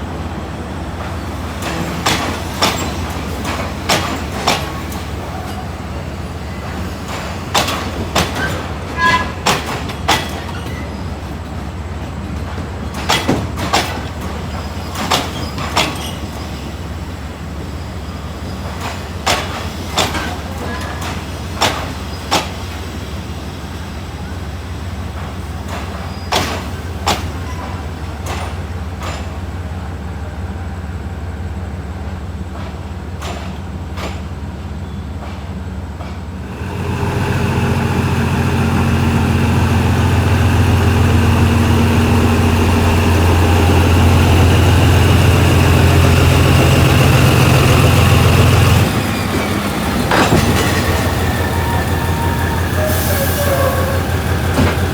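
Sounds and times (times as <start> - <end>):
diesel locomotive engine: 0.0 - 54.9.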